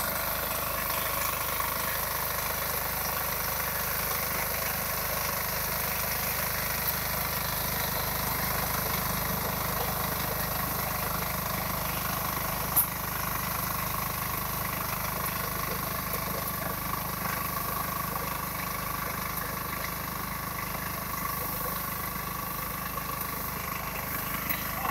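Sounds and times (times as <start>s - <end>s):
small engine running: 0.0s - 24.9s.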